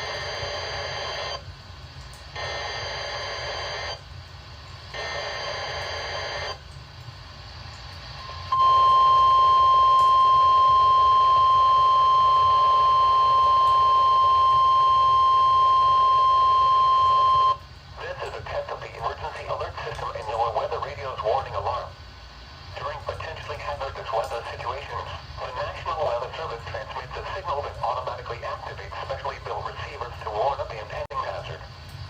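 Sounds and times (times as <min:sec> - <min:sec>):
radio static hiss: 0:00.0 - 0:01.6, 0:02.2 - 0:09.6, 0:10.2 - 0:32.0.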